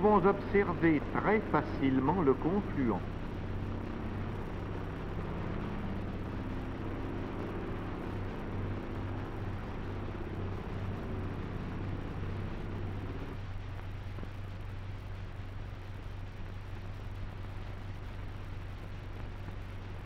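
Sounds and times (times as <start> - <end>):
propeller aircraft engine drone: 0.0 - 16.1
film soundtrack hiss and hum: 0.0 - 20.0.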